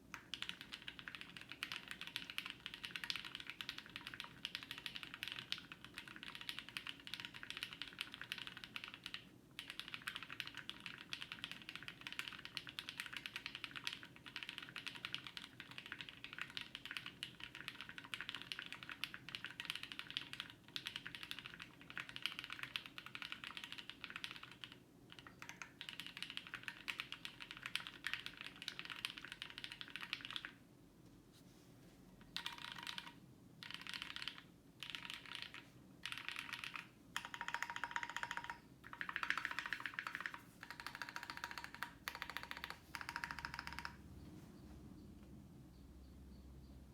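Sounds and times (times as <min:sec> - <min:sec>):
fast typing on mechanical keyboard: 0:00.1 - 0:30.6, 0:32.4 - 0:44.0.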